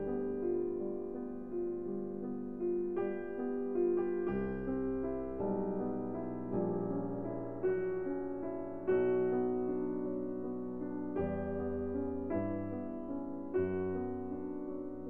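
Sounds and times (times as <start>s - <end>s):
soft slow piano melody: 0.0s - 15.0s.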